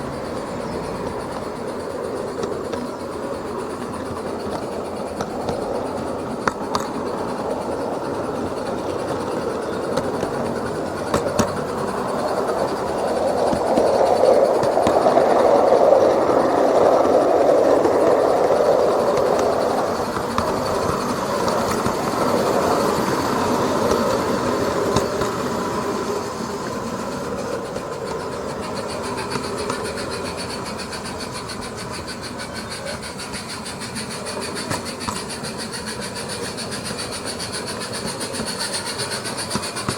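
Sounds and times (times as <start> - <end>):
model train wheels clattering: 0.0 - 39.9.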